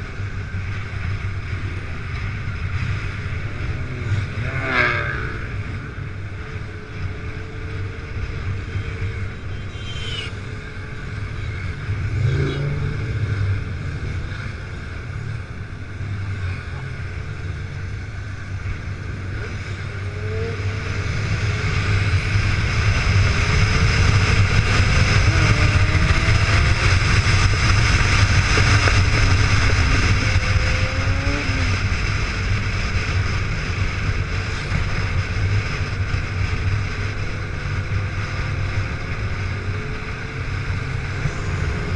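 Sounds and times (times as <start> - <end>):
motorcycle engine drone: 0.0 - 41.9
wind noise: 0.0 - 41.9.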